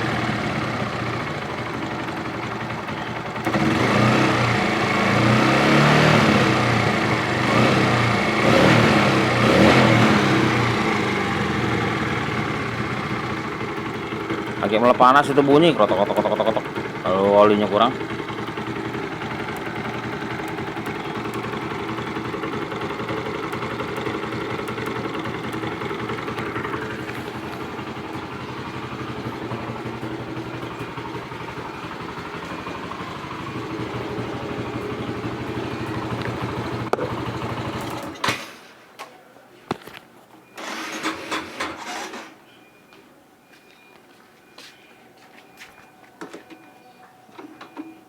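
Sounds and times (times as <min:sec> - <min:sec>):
motorcycle engine rattling: 0:00.0 - 0:38.8, 0:40.6 - 0:42.4.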